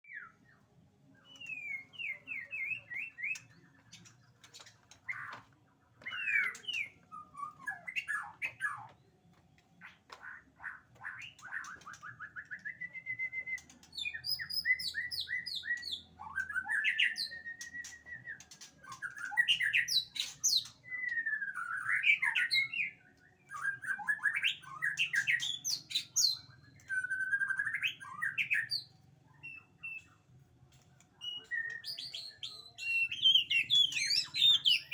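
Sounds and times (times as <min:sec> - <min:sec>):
songbird singing varied song: 0:00.0 - 0:05.3, 0:06.0 - 0:09.2, 0:11.0 - 0:30.4, 0:31.0 - 0:34.9.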